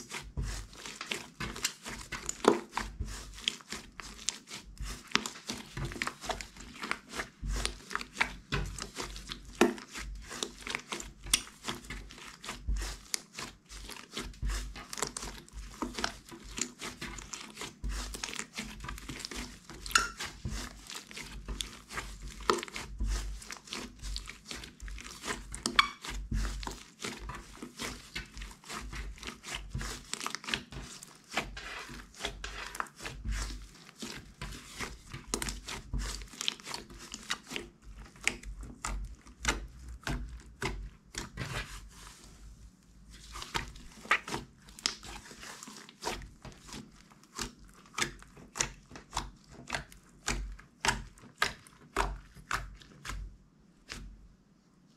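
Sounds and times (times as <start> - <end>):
slime squelching and popping: 0.0 - 42.2, 43.1 - 54.2.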